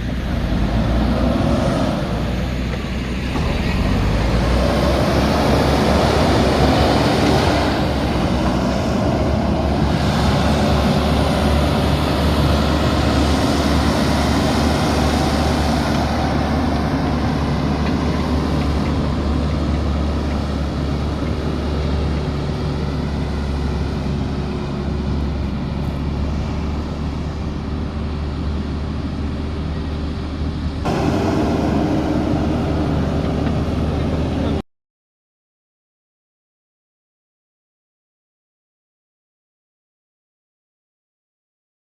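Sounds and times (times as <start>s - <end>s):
backhoe loader diesel engine: 0.0s - 34.6s.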